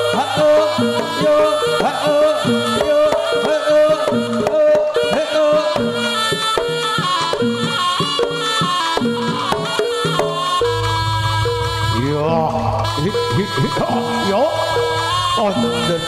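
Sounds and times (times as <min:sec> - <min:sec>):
dance music with drums: 0:00.0 - 0:16.0.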